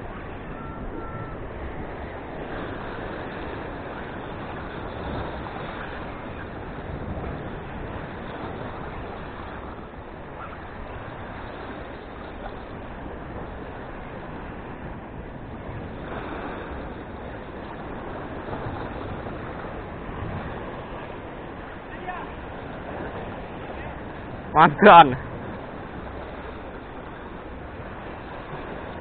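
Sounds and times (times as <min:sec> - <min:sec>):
surf washing against rocks: 0:00.0 - 0:29.0
wind on microphone: 0:00.0 - 0:29.0.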